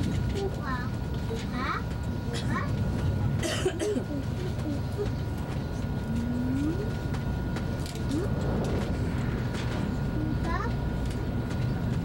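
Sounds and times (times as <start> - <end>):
train rumble inside passenger car: 0.0 - 12.0.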